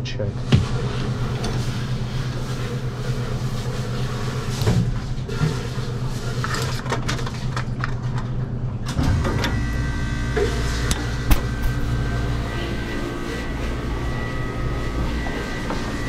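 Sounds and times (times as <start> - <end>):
refrigeration equipment humming: 0.0 - 16.0.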